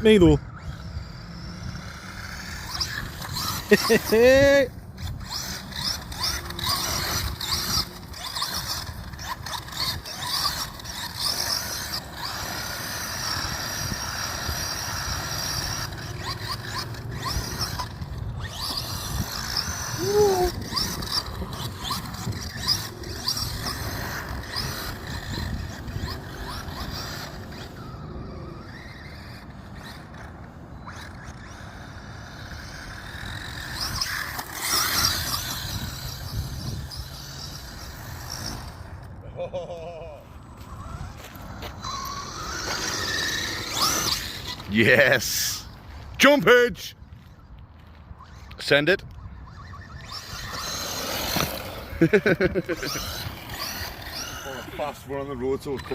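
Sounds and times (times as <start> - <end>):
rc car motor whining: 0.0 - 55.9
tyres on rough ground: 0.0 - 55.9.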